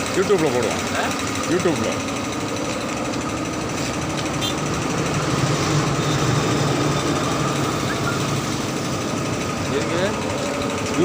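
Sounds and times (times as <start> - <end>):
machine knocking rhythmically: 0.0 - 11.0.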